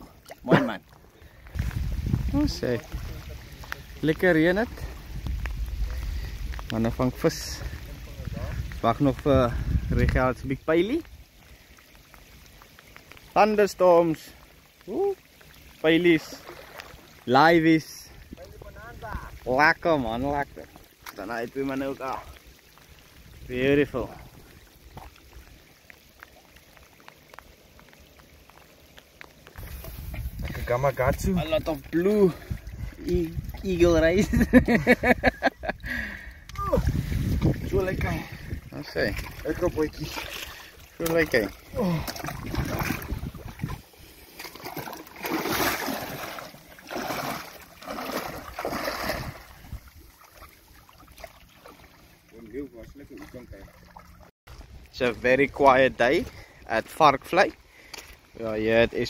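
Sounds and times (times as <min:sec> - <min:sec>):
light rain on water: 0:00.0 - 0:59.0.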